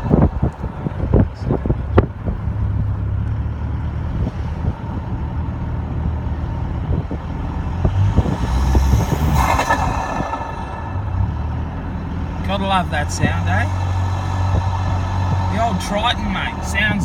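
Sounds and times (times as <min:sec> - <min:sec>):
diesel engine under throttle: 0:00.0 - 0:17.0.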